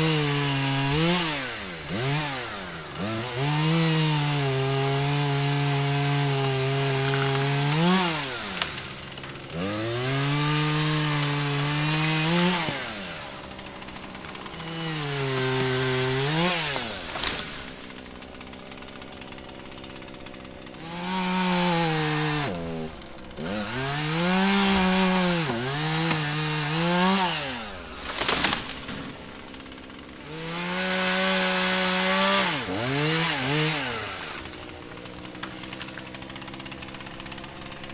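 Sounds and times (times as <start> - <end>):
chainsaw cutting wood: 0.0 - 37.9.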